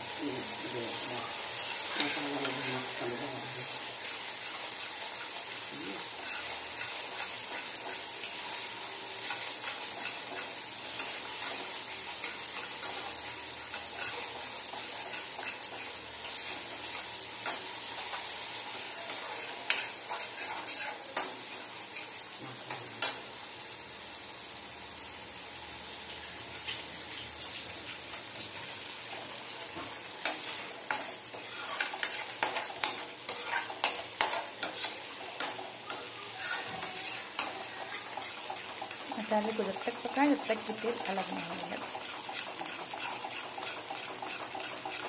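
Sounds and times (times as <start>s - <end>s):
spices sizzling in oil: 0.0s - 45.0s
metal spatula scraping pan: 1.5s - 18.4s, 19.0s - 22.3s, 28.8s - 45.0s.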